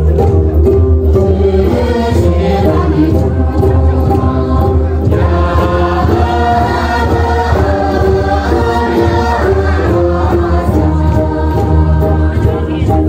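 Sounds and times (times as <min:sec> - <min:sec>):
group of voices singing: 0:01.0 - 0:13.0.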